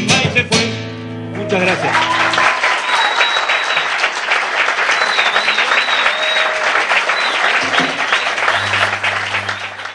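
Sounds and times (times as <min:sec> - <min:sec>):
audience applauding: 0:01.6 - 0:09.9.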